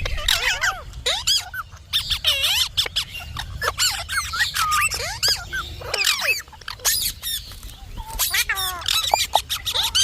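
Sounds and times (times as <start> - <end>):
parrot squeaks and whistles: 0.1 - 10.0.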